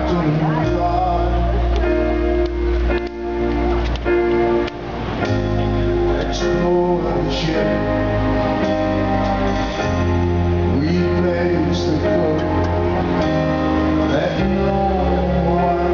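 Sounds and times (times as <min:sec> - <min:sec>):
bass guitar: 0:00.0 - 0:15.9
electric guitar: 0:00.0 - 0:15.9.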